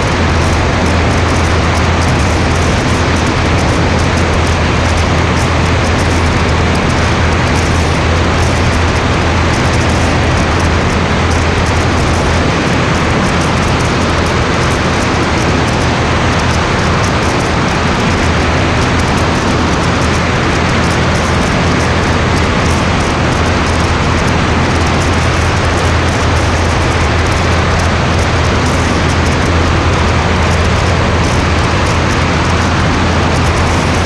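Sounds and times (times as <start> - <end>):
light aircraft engine drone: 0.0 - 34.0.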